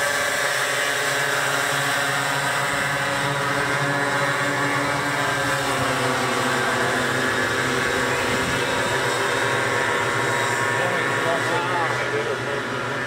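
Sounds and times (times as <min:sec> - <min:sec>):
model aircraft engines droning: 0:00.0 - 0:13.0.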